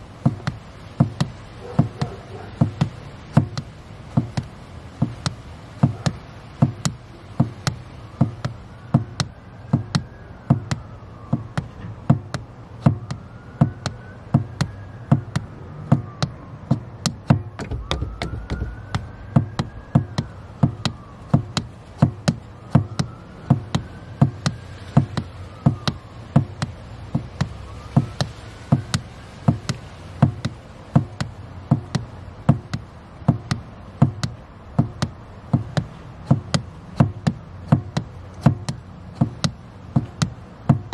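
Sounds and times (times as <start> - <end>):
foot tapping accelerator pedal: 0.1 - 40.9.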